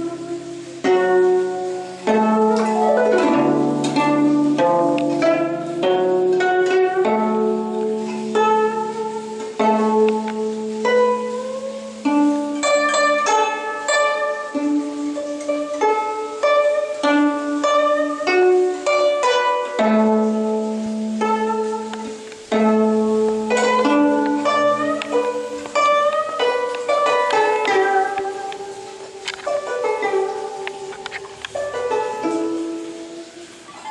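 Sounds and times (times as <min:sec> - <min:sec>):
plucked zither melody: 0:00.0 - 0:33.9.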